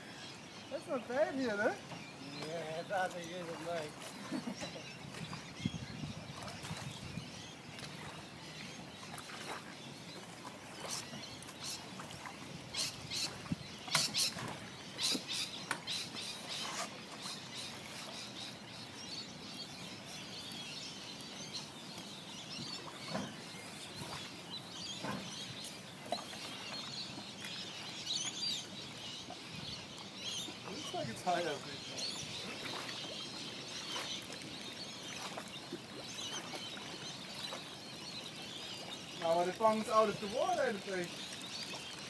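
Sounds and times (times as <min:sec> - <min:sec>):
birds chirping: 0:00.0 - 0:42.0
outdoor background noise: 0:00.0 - 0:42.0.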